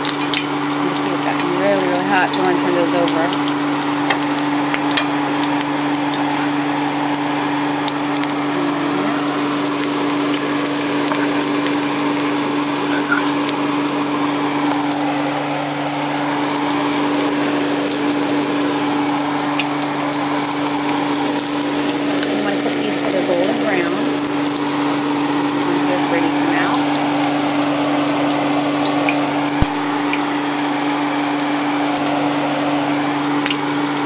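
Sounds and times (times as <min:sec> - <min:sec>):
oil popping and crackling: 0:00.0 - 0:34.0
shrimp deep-frying in oil: 0:00.0 - 0:34.0.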